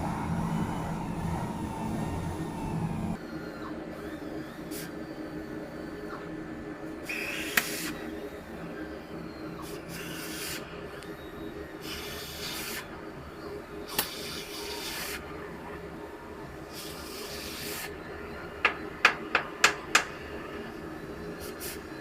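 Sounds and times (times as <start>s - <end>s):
machinery hum: 0.0s - 22.0s.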